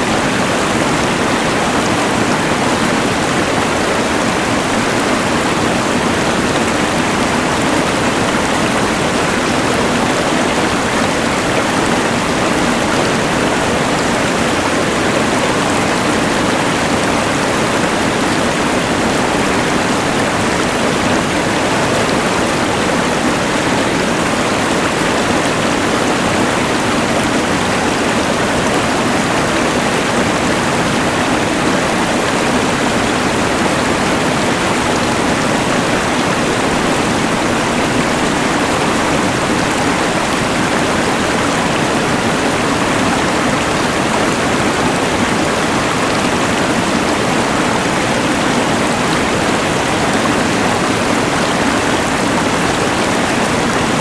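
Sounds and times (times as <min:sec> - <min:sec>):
rushing water noise: 0:00.0 - 0:54.0.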